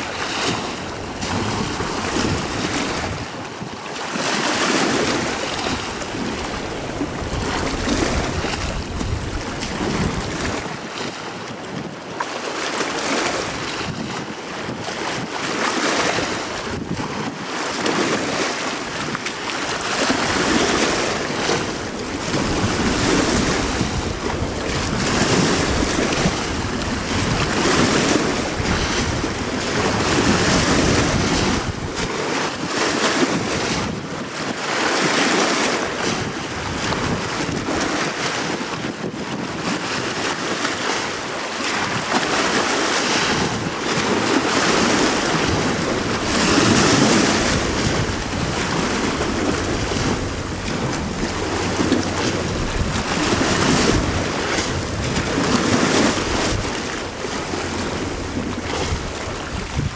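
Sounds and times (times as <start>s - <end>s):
gusty wind buffeting microphone: 0.0s - 12.1s, 13.2s - 59.9s
choppy water: 0.0s - 59.9s.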